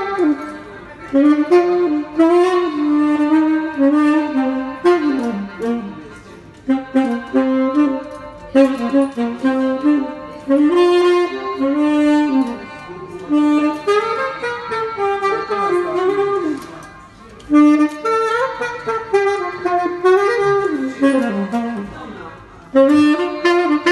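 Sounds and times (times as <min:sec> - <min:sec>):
saxophone melody: 0:00.0 - 0:23.9.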